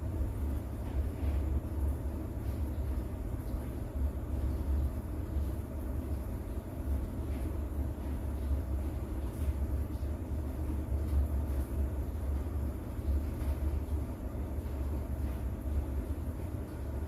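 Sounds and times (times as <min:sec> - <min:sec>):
faint soft rain patter: 0:00.0 - 0:17.0.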